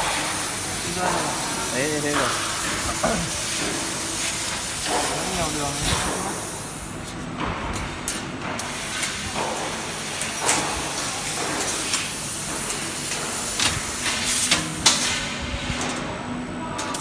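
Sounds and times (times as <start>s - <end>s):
laser cutter hissing: 0.0s - 7.0s, 8.6s - 15.5s.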